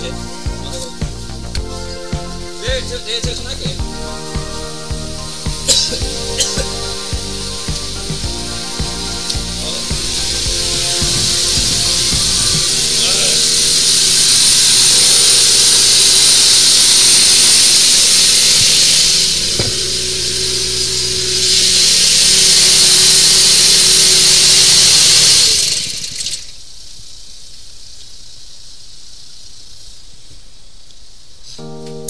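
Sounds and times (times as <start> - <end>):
sewer jetter hissing: 0.0 - 26.7.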